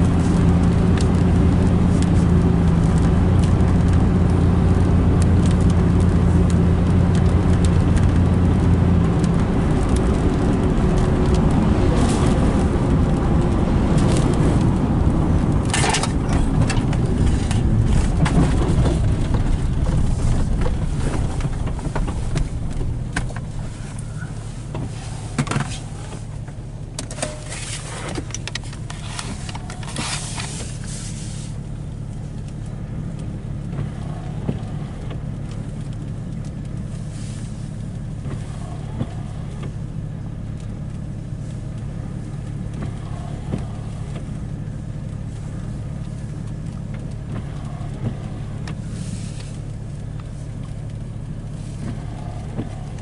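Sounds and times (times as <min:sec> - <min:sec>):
car engine hum: 0:00.0 - 0:53.0
hissing and rustling: 0:00.0 - 0:53.0
road noise: 0:00.0 - 0:53.0.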